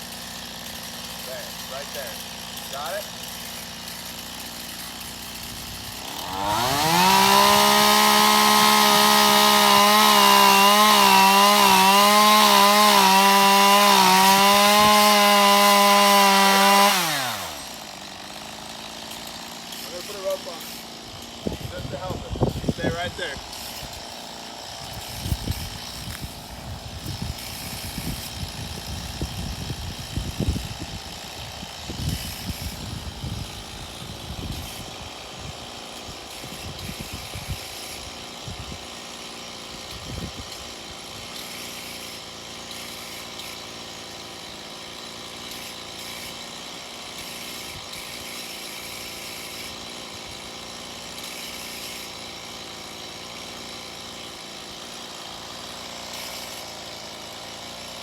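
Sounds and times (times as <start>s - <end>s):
chainsaw idling: 0.0s - 58.0s.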